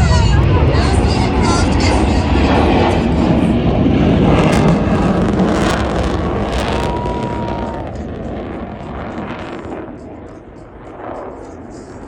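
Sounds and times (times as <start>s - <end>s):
fighter jet passing overhead: 0.0s - 12.0s.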